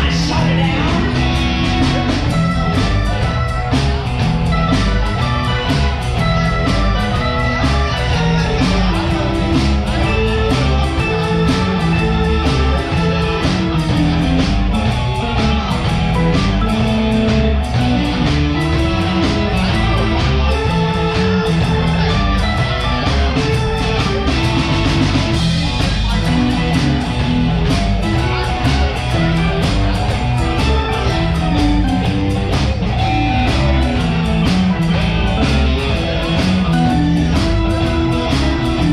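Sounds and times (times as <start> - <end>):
blues band playing live: 0.0 - 38.9.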